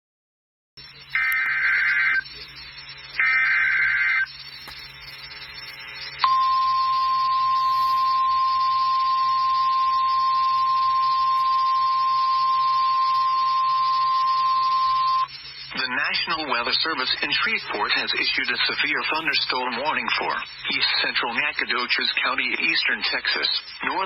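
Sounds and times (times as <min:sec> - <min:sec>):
digital data burst: 0:00.8 - 0:24.0
radio hiss: 0:00.8 - 0:24.0
steady warning alarm tone: 0:00.8 - 0:24.0.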